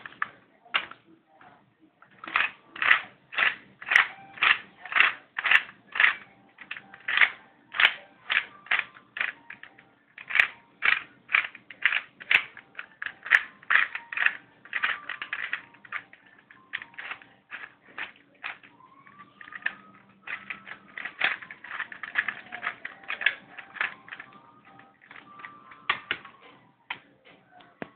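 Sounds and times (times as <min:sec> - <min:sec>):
plastic puzzle clacking: 0:00.0 - 0:27.9.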